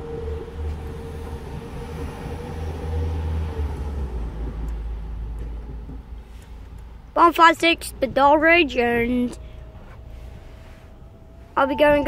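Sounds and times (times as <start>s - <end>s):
train passing low rumble: 0.0s - 12.0s.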